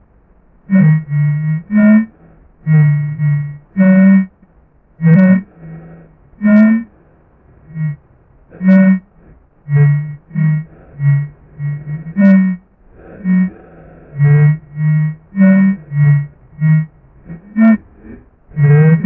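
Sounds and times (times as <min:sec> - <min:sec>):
low electronic bleeps: 0:00.7 - 0:04.4, 0:05.0 - 0:05.6, 0:06.4 - 0:06.9, 0:07.7 - 0:09.1, 0:09.7 - 0:19.0.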